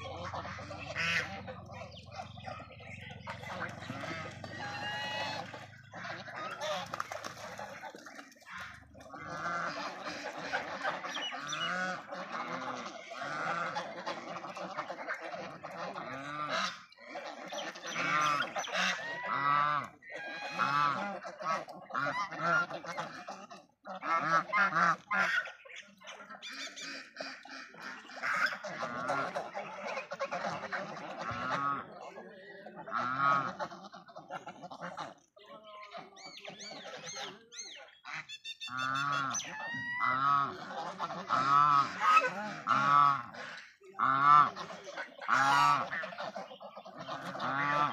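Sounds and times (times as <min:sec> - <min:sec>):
geese honking: 0:00.0 - 0:47.9.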